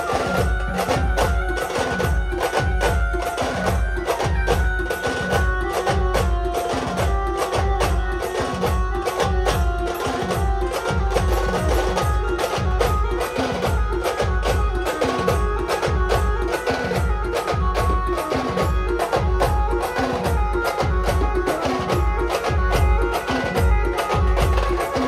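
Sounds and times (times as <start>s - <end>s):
drums beating heavily: 0.0s - 25.0s.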